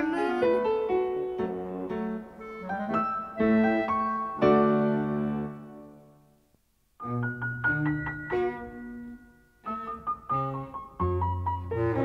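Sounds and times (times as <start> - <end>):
piano music: 0.0 - 6.4, 7.0 - 12.0.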